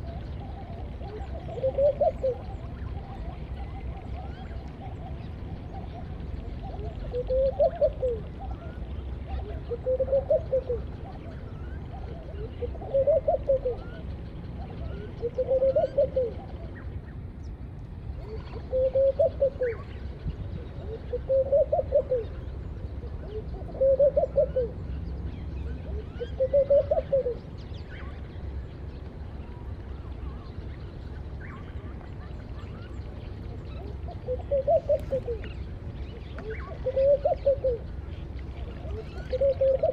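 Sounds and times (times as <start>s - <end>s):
doves cooing: 0.0s - 17.0s, 18.2s - 39.9s
low background rumble: 0.0s - 39.9s
small birds chirping: 0.0s - 39.9s.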